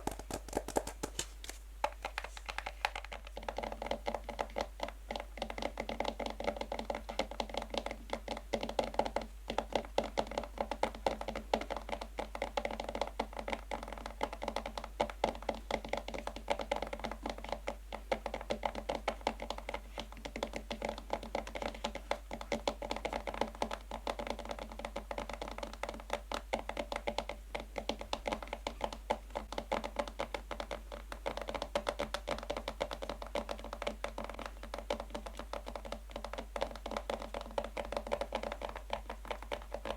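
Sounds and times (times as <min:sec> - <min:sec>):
fingernails tapping on a box: 0:01.8 - 0:39.9.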